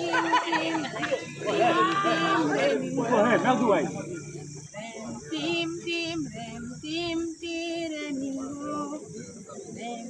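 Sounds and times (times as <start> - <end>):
high voices singing: 0.0 - 10.0.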